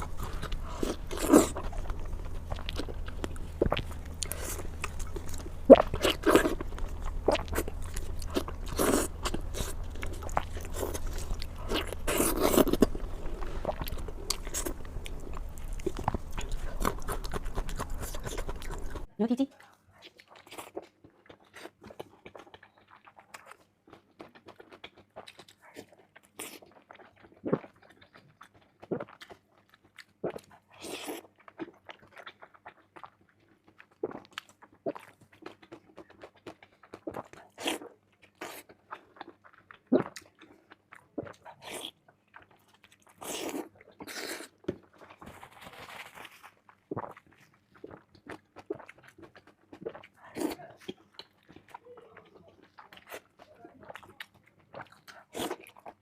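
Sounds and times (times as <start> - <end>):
person chewing: 0.0 - 19.1, 20.0 - 56.0.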